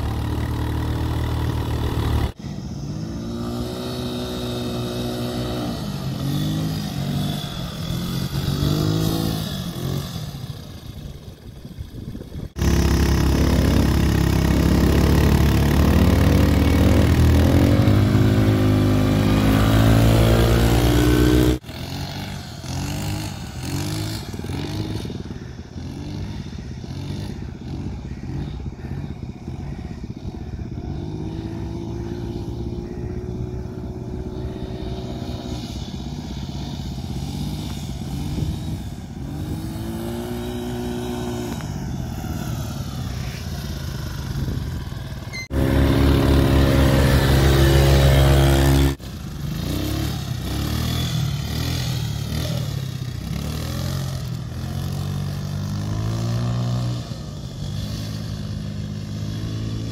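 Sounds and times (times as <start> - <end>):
loud engine: 0.0 - 59.9
quad bike engines revving: 0.0 - 59.9.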